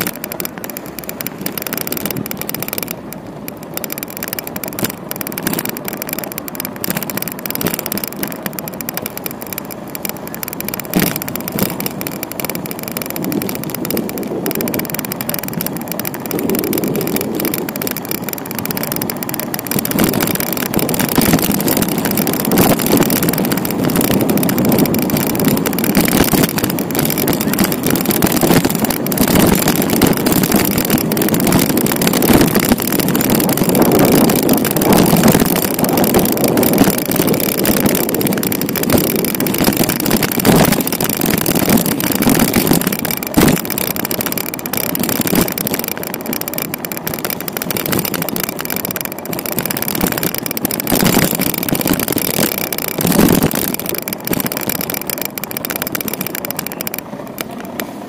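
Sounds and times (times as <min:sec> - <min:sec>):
passing traffic: 0:00.0 - 0:58.0
road noise: 0:00.0 - 0:58.0
wind buffeting microphone: 0:03.8 - 0:57.0.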